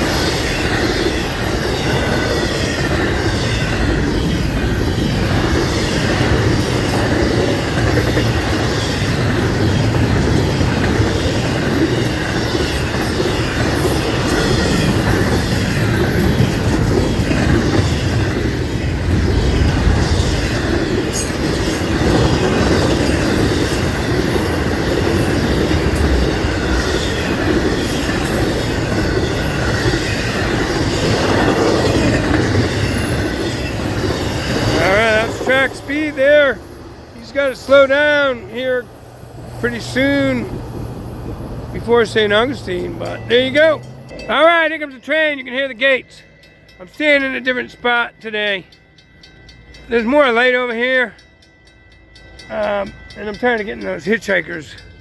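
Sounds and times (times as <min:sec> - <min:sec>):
freight train wheels rumbling: 0:00.0 - 0:55.0
train wheels clacking: 0:00.0 - 0:55.0.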